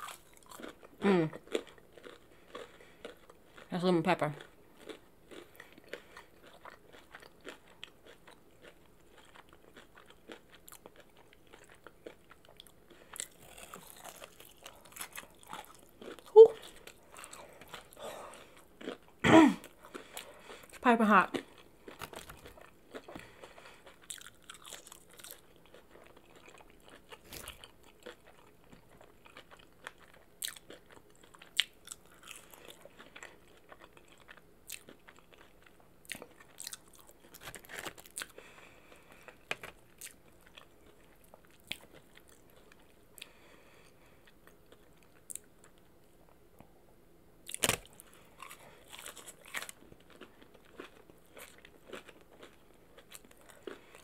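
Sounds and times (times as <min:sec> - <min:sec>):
person chewing crunchy food: 0:00.0 - 0:45.9, 0:47.4 - 0:54.0.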